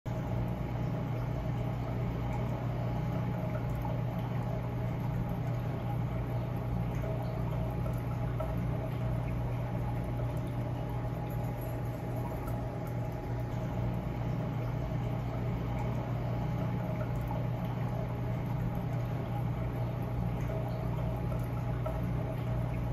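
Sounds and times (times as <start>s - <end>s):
low machinery hum: 0.1s - 22.9s.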